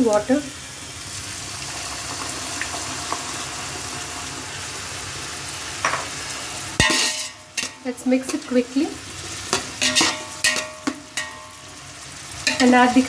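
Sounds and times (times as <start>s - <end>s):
liquid sizzling in a pan: 0.0s - 13.0s.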